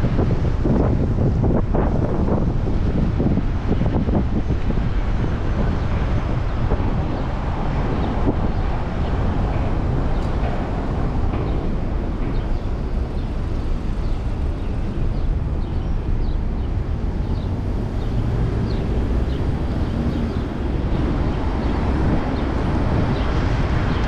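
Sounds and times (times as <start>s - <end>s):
bicycle road noise: 0.0s - 24.0s
traffic: 0.0s - 24.0s
wind rumble on microphone: 0.0s - 24.0s.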